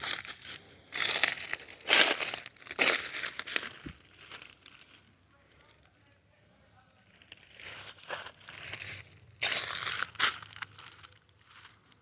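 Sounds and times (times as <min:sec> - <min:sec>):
dry rustling and crunching: 0:00.0 - 0:06.1, 0:07.1 - 0:12.0.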